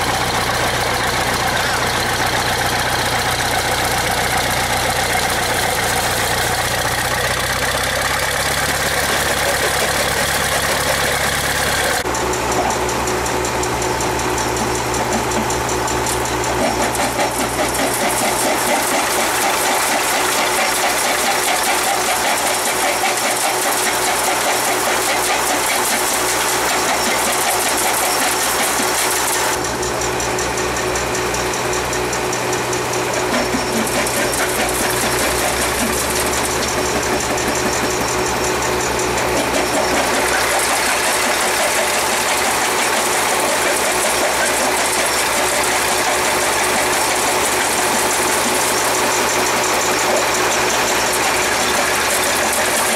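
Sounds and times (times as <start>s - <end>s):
diesel engine running under load: 0.0s - 52.9s.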